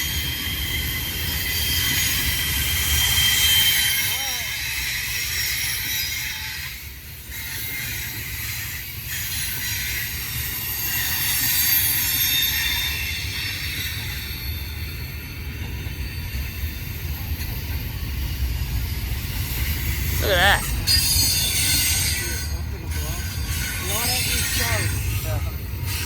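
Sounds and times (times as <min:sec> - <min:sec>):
steel wheels squealing: 0:00.0 - 0:26.0
train cars rumbling: 0:00.0 - 0:26.0.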